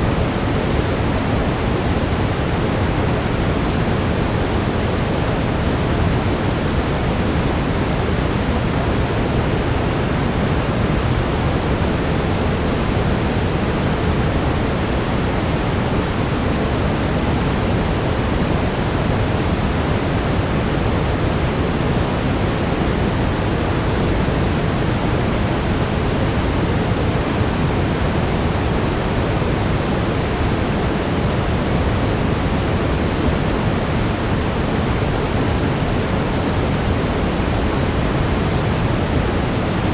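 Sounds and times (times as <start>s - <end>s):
deep brown noise hiss: 0.0s - 39.9s.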